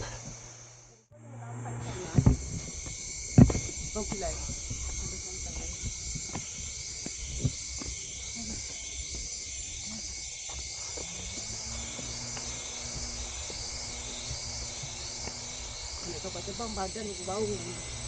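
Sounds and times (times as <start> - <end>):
insect chorus buzzing: 0.0 - 18.0.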